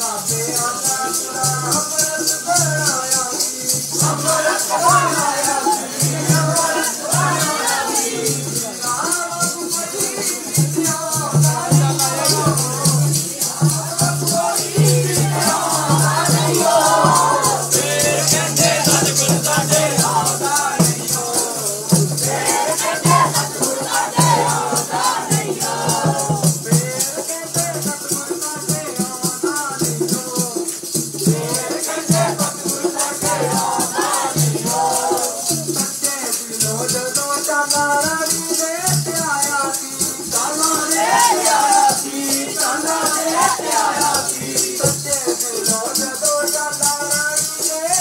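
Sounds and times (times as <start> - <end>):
jingling hand percussion: 0.0 - 48.0
men singing a hymn: 0.0 - 48.0.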